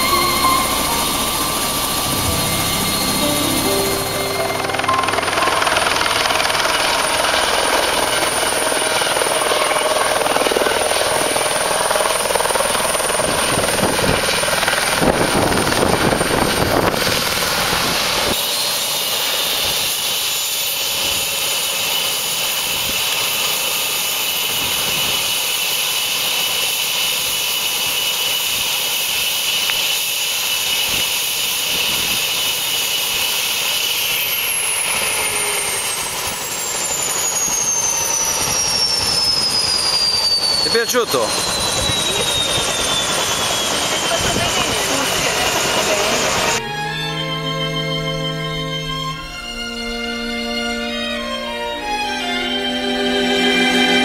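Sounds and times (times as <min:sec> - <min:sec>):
helicopter rotor and engine: 0:00.0 - 0:54.0
high turbine whine: 0:00.0 - 0:54.0.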